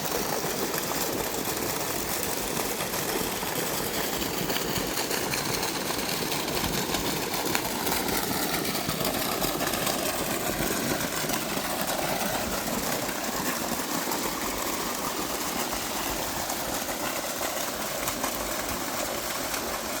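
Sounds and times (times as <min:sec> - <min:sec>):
water running into a basin: 0:00.0 - 0:20.0.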